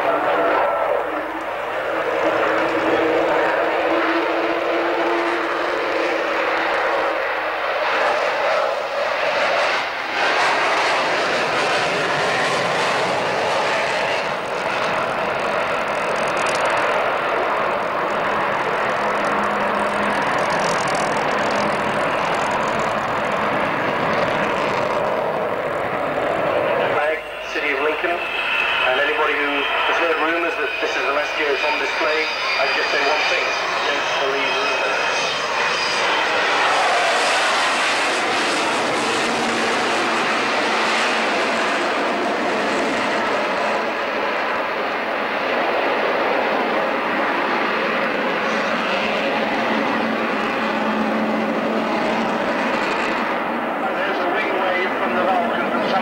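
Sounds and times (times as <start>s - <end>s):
jet aircraft flying: 0.0s - 56.0s.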